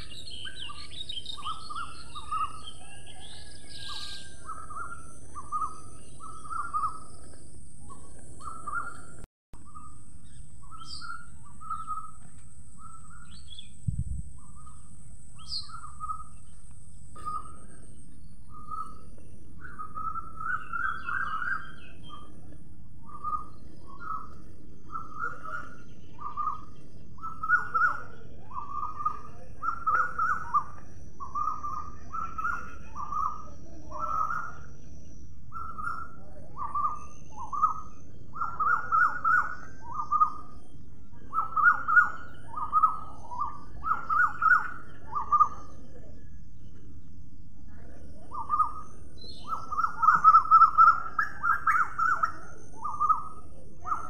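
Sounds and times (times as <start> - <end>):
birds chirping: 0.0 - 54.0
low background noise: 0.0 - 54.0.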